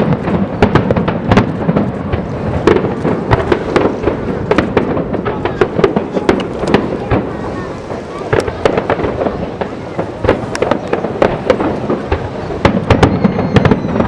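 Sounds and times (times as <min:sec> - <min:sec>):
continuous rumble: 0:00.0 - 0:14.0
fireworks bangs and crackles: 0:00.0 - 0:14.0.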